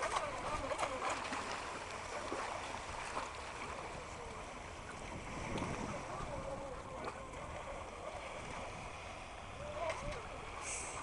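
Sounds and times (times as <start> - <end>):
sea water lapping: 0.0 - 11.0
wind rumbling on microphone: 0.0 - 11.0.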